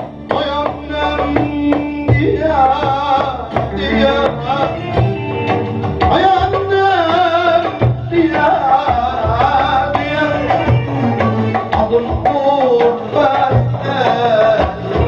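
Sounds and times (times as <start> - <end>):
drum rhythm: 0.0 - 15.0
man singing into a microphone: 0.0 - 15.0.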